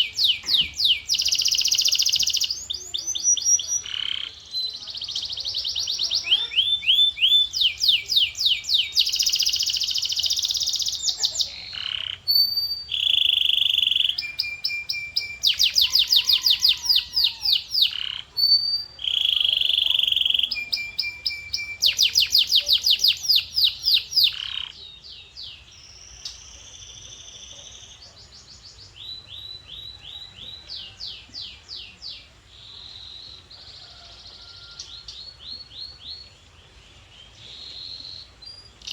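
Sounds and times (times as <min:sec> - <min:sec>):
canary singing: 0:00.0 - 0:36.4.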